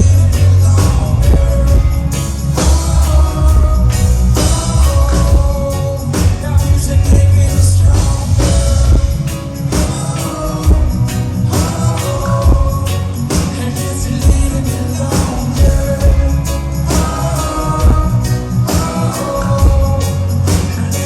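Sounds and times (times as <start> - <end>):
heavy bass line: 0.0 - 21.0
live reggae band: 0.0 - 21.0
steady drum beat: 0.0 - 21.0.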